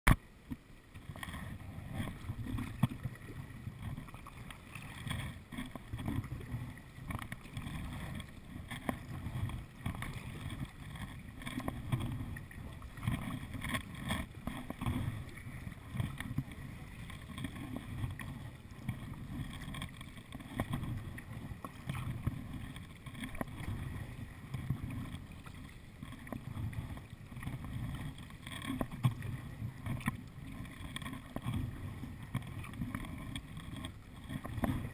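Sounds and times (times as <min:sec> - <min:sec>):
paddles splashing in water: 0:00.1 - 0:34.9
water lapping on hull: 0:00.1 - 0:34.9
low uneven rumble: 0:00.2 - 0:34.9.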